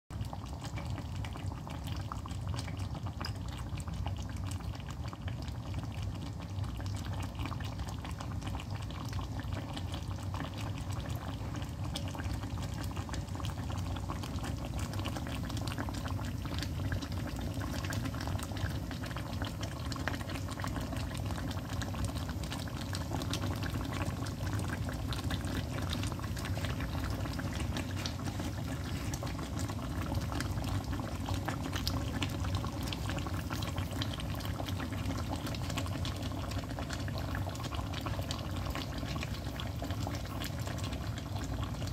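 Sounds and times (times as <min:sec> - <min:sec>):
curry sauce simmering in a pan: 0:00.1 - 0:41.9.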